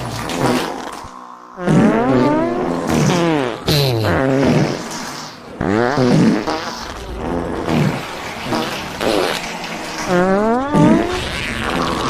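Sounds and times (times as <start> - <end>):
fart and burp noises: 0.0 - 12.0.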